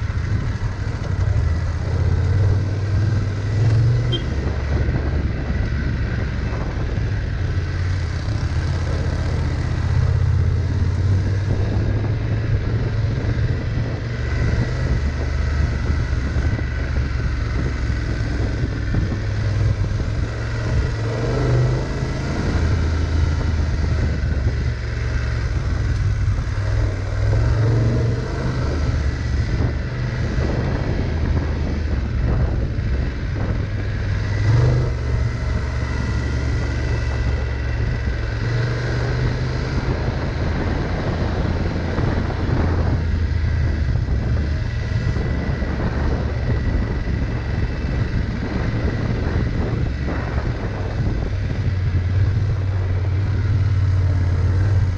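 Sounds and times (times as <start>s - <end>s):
motorcycle engine running: 0.0s - 54.9s
tyre and wind noise: 0.0s - 54.9s.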